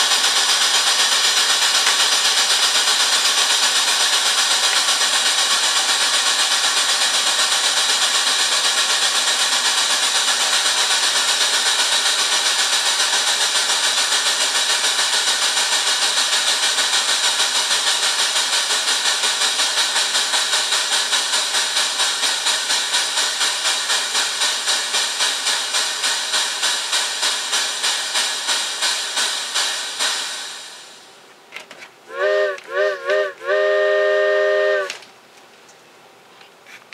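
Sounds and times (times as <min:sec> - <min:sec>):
simulated steam locomotive chuffing: 0:00.0 - 0:35.3.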